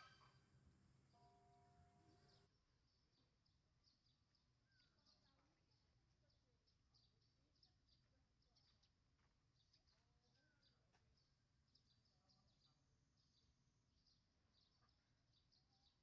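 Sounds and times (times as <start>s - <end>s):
faint high bird chirps: 0.0s - 0.5s, 1.1s - 16.0s
low steady outdoor hum: 0.0s - 16.0s.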